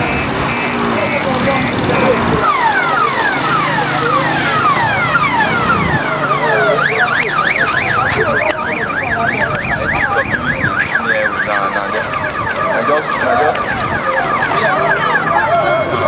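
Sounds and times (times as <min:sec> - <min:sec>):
electronic vehicle siren: 0:00.0 - 0:16.0.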